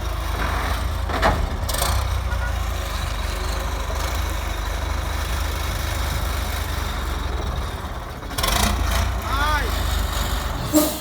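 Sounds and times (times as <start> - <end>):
truck diesel engine drone: 0.0 - 11.0.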